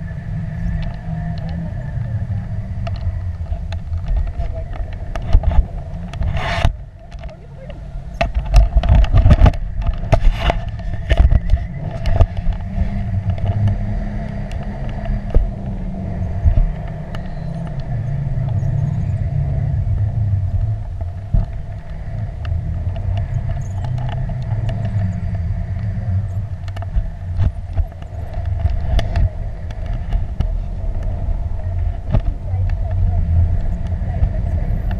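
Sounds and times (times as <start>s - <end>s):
wind rumbling on microphone: 0.0s - 34.9s
sharp clicks and knocks: 2.8s - 18.8s, 19.9s - 34.9s.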